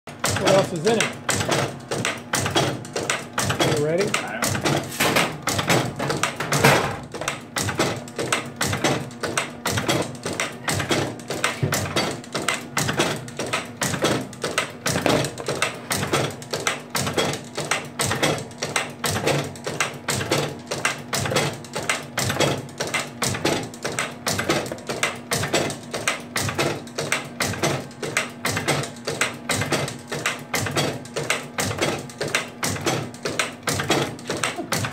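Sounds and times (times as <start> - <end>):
steady motor hum: 0.1 - 34.9.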